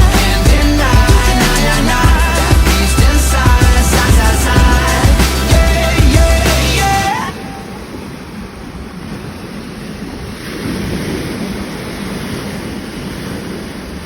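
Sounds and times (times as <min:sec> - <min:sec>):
sea water rushing and splashing: 0:00.0 - 0:14.0
wind buffeting microphone: 0:00.0 - 0:14.0.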